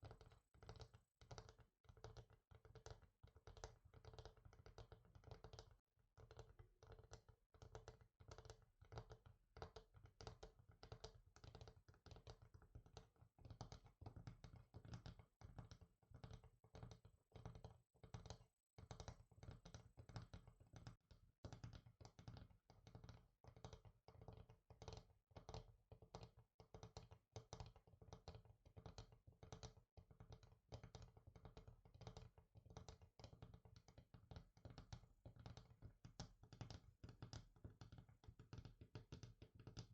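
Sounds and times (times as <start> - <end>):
fingers tapping on a surface: 0.0 - 39.9.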